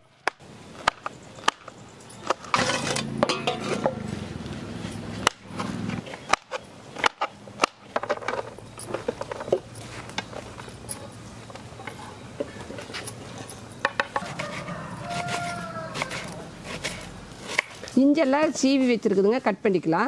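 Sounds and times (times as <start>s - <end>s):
background noise: 0.0s - 20.0s.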